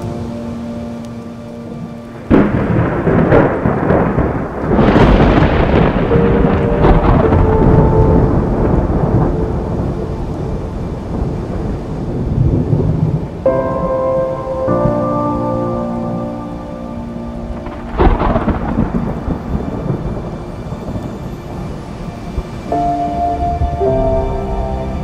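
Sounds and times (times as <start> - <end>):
soft ambient music: 0.0 - 25.0
rumbling thunder: 1.6 - 25.0.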